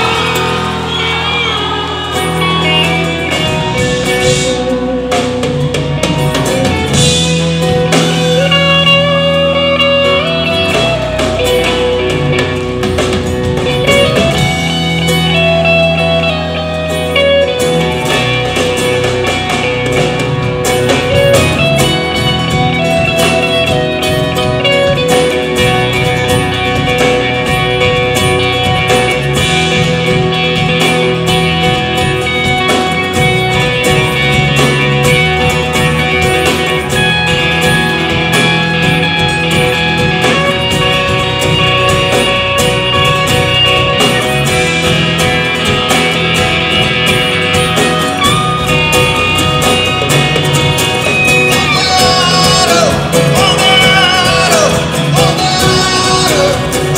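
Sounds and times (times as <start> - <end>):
acoustic guitar: 0.0 - 56.9
electric guitar lead melody: 0.0 - 56.9
keyboard: 0.0 - 56.9.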